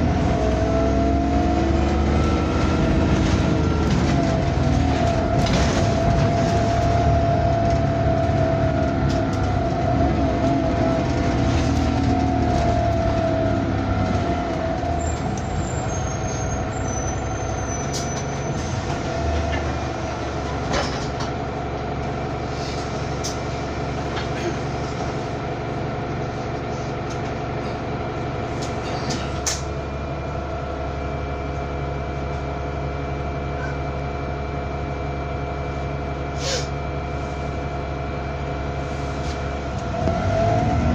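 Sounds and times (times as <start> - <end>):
bus engine whine and hum: 0.0 - 40.9.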